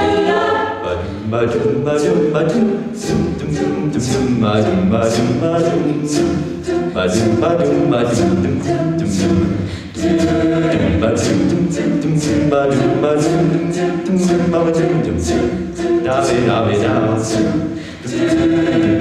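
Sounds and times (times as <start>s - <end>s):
backing vocal harmonies: 0.0s - 19.0s
man singing lead: 0.8s - 19.0s
vocal percussion beat: 0.8s - 19.0s.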